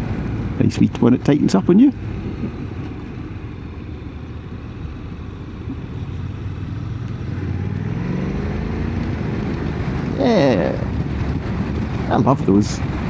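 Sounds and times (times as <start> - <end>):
motorcycle engine accelerating: 0.7 - 12.2.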